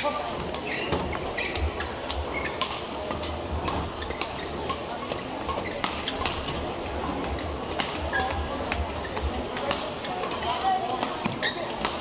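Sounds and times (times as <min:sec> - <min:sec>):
shoes squeaking on court: 0:00.0 - 0:12.0.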